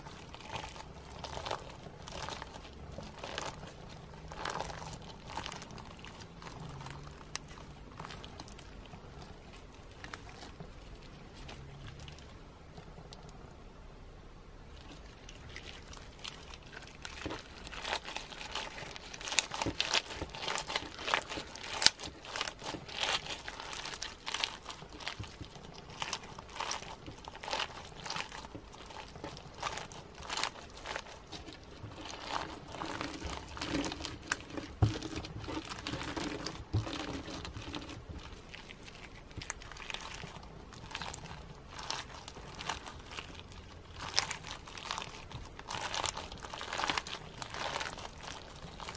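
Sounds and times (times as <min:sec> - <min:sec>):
slime with sequins crackling: 0:00.0 - 0:13.3, 0:14.6 - 0:48.9.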